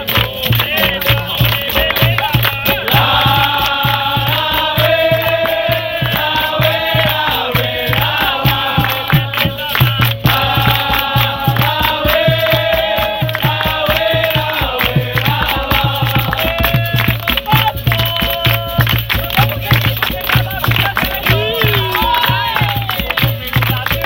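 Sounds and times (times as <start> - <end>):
group singing chorus: 0.0 - 19.2, 20.0 - 24.0
steady drum beat: 0.0 - 24.0.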